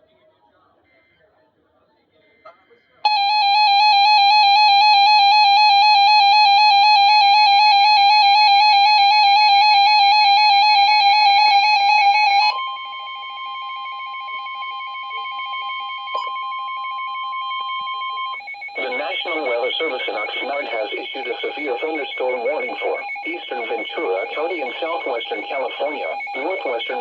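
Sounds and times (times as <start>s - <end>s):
warbling alarm tone: 3.1s - 27.0s.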